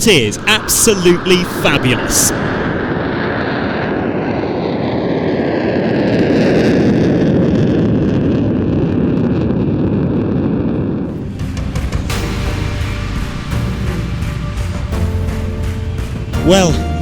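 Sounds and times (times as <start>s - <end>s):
jet engine roaring past: 0.0s - 17.0s.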